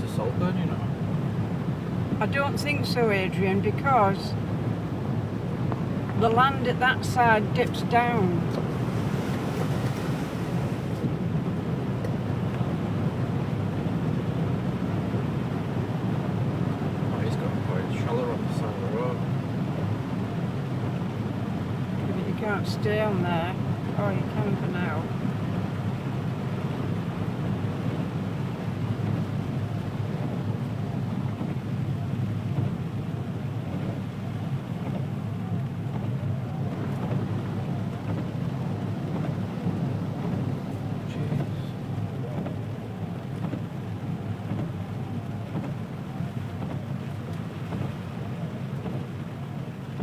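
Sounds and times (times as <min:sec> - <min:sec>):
car engine rumble: 0:00.0 - 0:50.0
water washing around tyres: 0:00.0 - 0:50.0.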